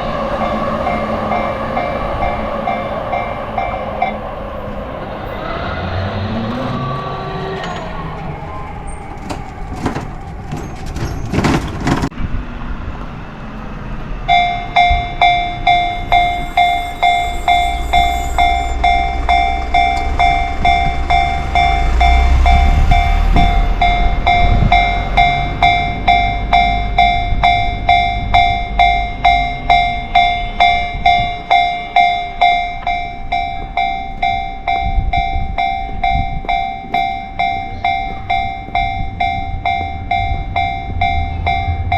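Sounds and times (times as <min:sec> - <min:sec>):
level-crossing warning bell: 0:00.0 - 0:11.3, 0:13.4 - 0:41.9
train rumble: 0:00.0 - 0:41.9.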